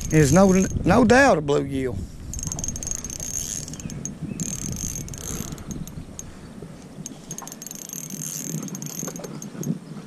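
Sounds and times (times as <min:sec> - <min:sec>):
fishing reel gears whirring: 0:00.0 - 0:00.8, 0:02.3 - 0:09.8
reel ticking: 0:00.0 - 0:00.9, 0:02.3 - 0:09.8.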